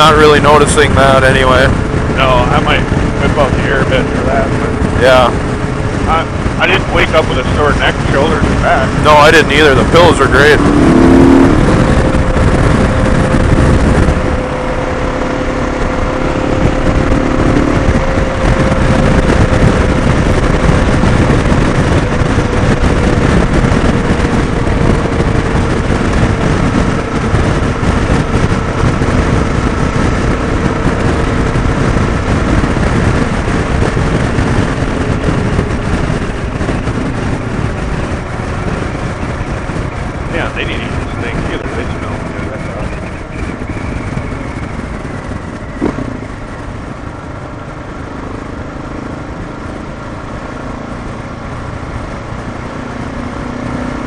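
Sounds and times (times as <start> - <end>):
motorcycle engine and road noise: 0.0 - 54.0
wind rush: 0.0 - 54.0.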